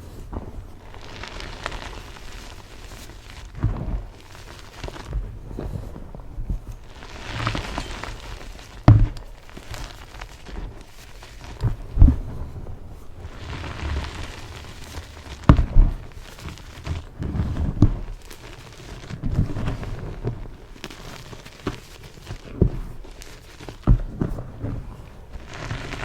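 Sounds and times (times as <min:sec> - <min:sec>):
chalk being crushed: 0:00.0 - 0:06.0, 0:06.6 - 0:26.0.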